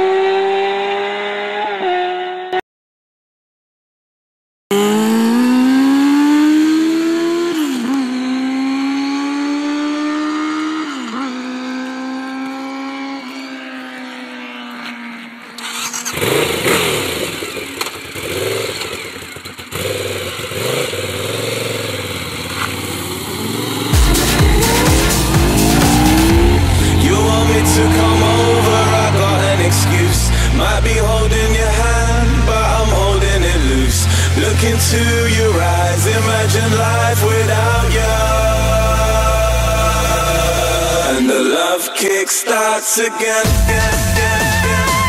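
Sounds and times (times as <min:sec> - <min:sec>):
motorcycle engine revving hard: 0:00.0 - 0:02.6, 0:04.7 - 0:41.4.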